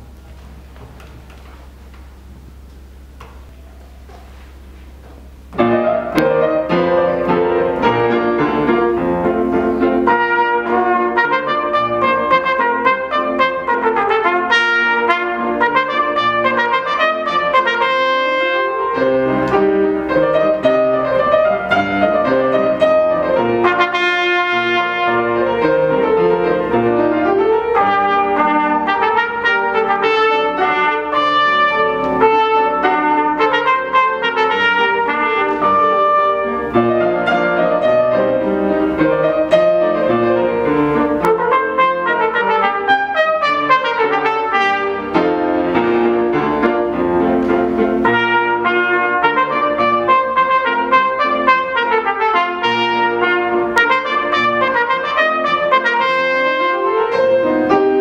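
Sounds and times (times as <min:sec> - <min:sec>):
piano playing: 0:00.0 - 0:58.0
trumpet: 0:05.6 - 0:58.0.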